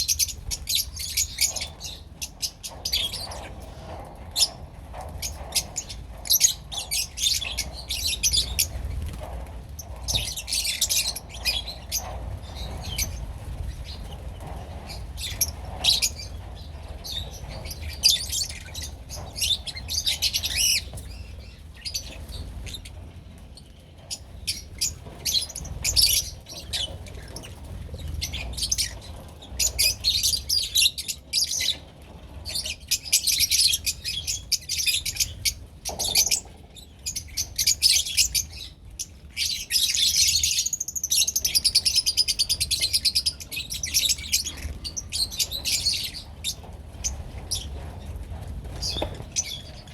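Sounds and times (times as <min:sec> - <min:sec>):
lovebirds chattering: 0:00.0 - 0:49.9.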